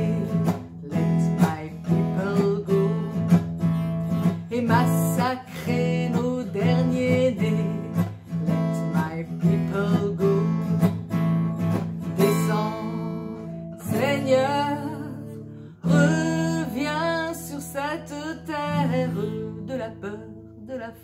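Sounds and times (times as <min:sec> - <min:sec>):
acoustic guitar strumming: 0:00.0 - 0:21.0
woman singing: 0:00.0 - 0:21.0.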